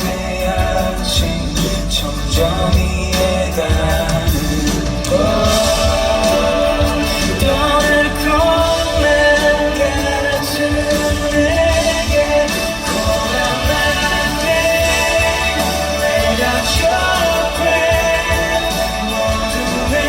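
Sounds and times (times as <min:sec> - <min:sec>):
live rock band playing: 0:00.0 - 0:20.0
man singing: 0:00.0 - 0:20.0.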